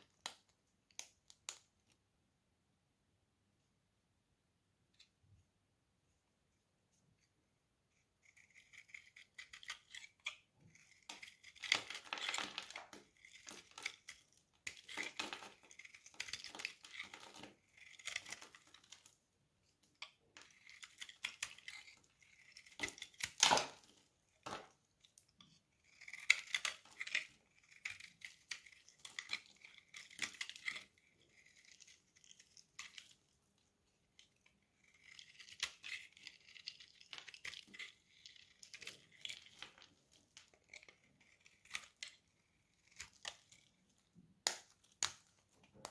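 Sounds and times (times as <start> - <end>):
knife cutting bar soap: 7.0 - 45.9.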